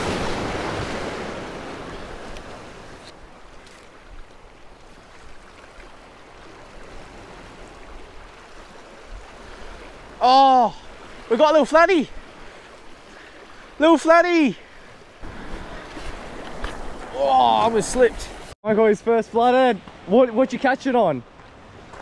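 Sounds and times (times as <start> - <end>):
waves lapping against rocks: 0.0 - 13.9, 14.5 - 18.6.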